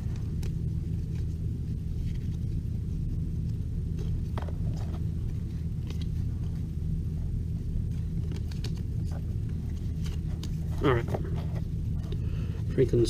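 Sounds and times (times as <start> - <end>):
cards and wrappers rustling: 0.0 - 6.7, 7.6 - 13.0
steady low hum: 0.0 - 13.0.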